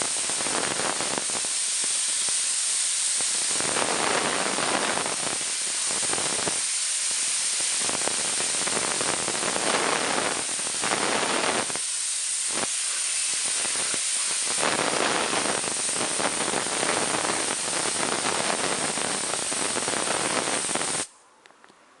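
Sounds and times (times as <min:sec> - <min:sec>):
air blow gun hissing: 0:00.0 - 0:21.1.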